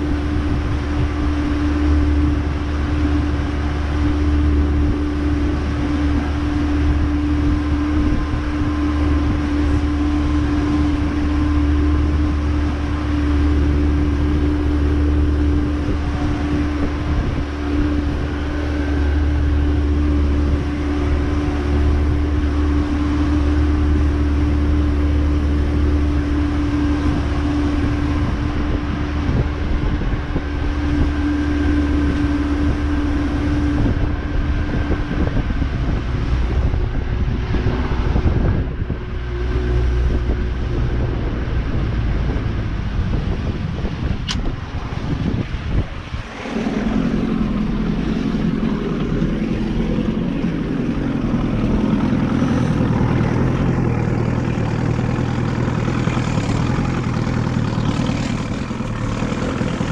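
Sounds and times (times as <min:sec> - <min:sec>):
boat engine humming: 0:00.0 - 0:59.9.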